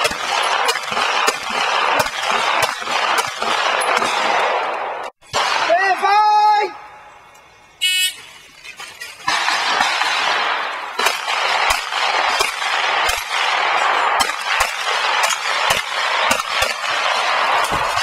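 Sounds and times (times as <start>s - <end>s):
pistol shots: 0.0s - 6.0s, 9.2s - 18.0s.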